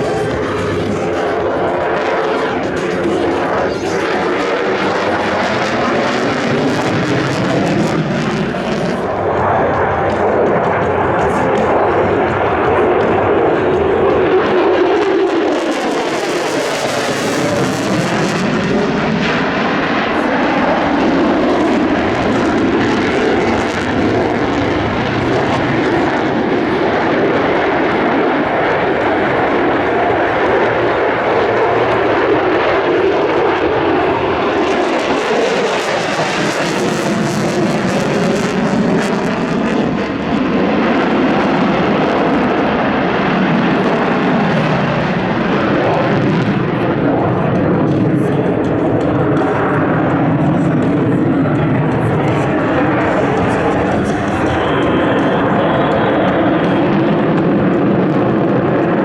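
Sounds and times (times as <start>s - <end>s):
jet engine roar: 0.0s - 59.0s.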